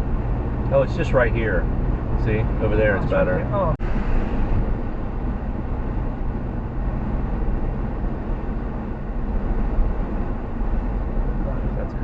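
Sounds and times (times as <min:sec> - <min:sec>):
car engine running: 0:00.0 - 0:12.0
low driving rumble: 0:00.0 - 0:12.0.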